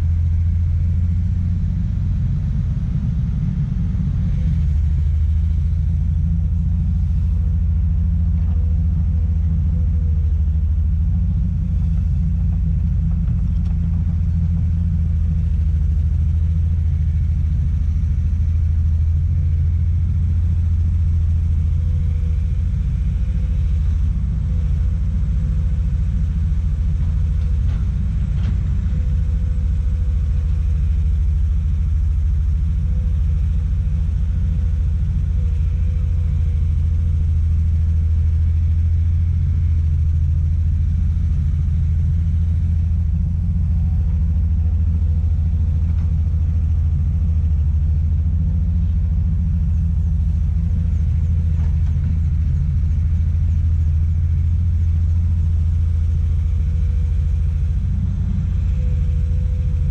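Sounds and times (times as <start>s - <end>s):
excavator diesel engine rumbling: 0.0s - 59.9s
faint steady whine: 0.0s - 59.9s.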